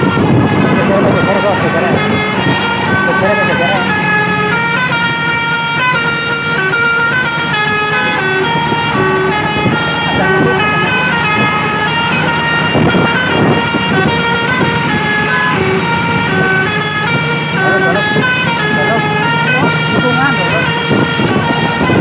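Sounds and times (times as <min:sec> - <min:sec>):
bus rumbling: 0:00.0 - 0:22.0
musical bus horn melody: 0:00.0 - 0:22.0.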